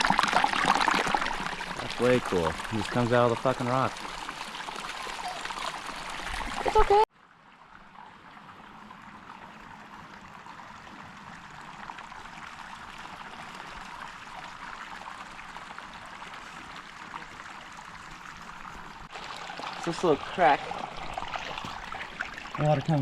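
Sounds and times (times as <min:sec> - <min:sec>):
spring water trickling: 0:00.0 - 0:23.0.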